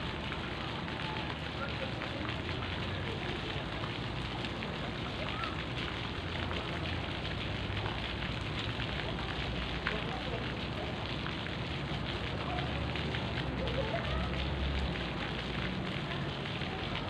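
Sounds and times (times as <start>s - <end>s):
fountain water splashing into pool: 0.0s - 17.0s.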